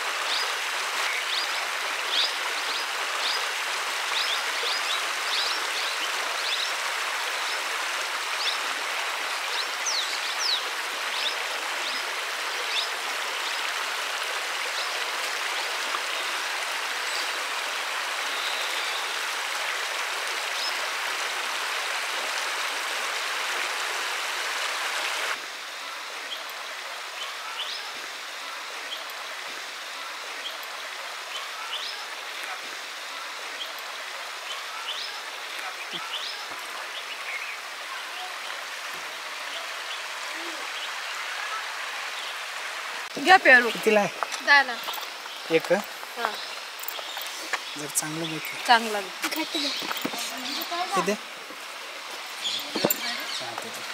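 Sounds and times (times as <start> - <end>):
water rushing over rocks: 0.0 - 53.9.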